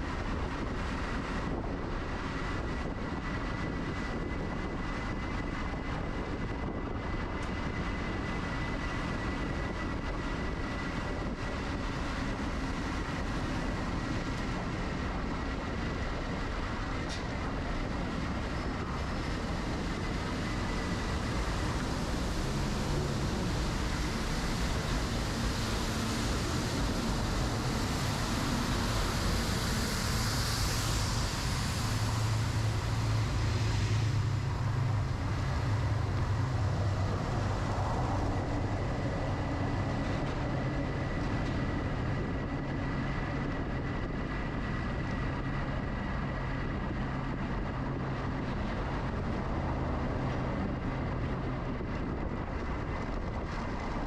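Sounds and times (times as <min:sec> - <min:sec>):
faint steady whine: 0:00.0 - 0:54.0
wind rush on microphone: 0:00.0 - 0:54.0.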